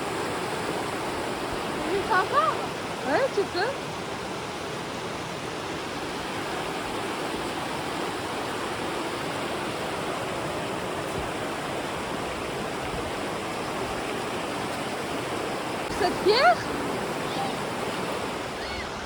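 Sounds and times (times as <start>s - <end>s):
river water rushing over stones: 0.0s - 19.0s.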